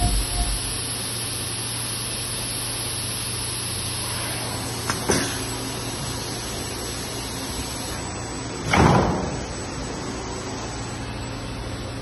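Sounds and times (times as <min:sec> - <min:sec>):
steady machinery hum: 0:00.0 - 0:12.0.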